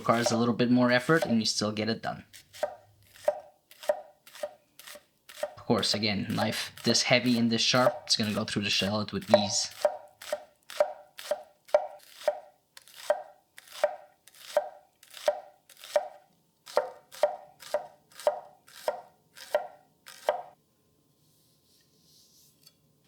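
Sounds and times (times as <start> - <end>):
knife chopping on cutting board: 0.0 - 1.4, 2.5 - 8.4, 9.2 - 20.5.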